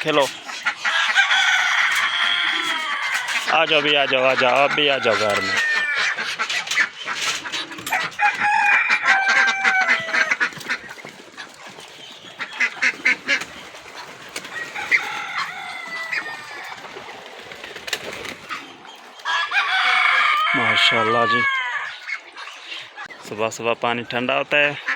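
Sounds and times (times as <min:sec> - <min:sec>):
chickens and ducks calling: 0:00.0 - 0:24.9.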